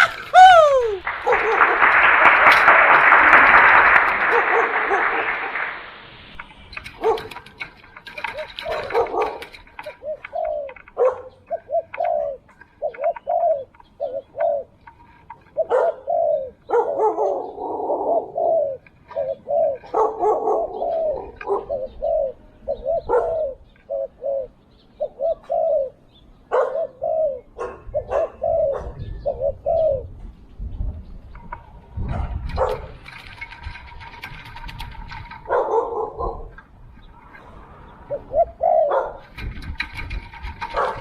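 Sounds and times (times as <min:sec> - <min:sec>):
doves cooing: 0:00.0 - 0:05.6, 0:06.5 - 0:30.2, 0:31.5 - 0:41.0.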